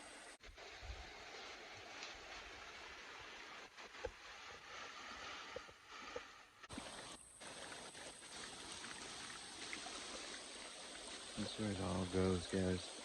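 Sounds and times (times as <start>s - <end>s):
flowing water rush: 0.0s - 13.0s.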